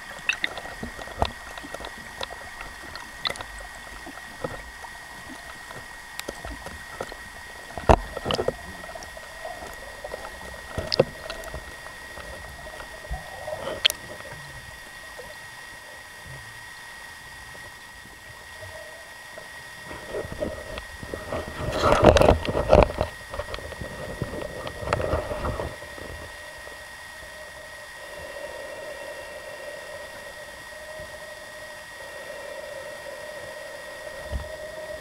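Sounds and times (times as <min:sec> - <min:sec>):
faint high whine: 0:00.0 - 0:35.0
muffled underwater noise: 0:00.0 - 0:35.0.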